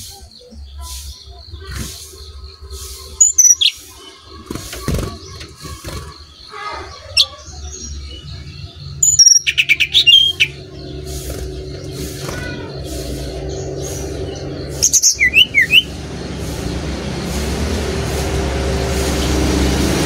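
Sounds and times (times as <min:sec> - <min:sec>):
bird singing: 0:00.0 - 0:20.0
soft bird calls: 0:00.0 - 0:20.0.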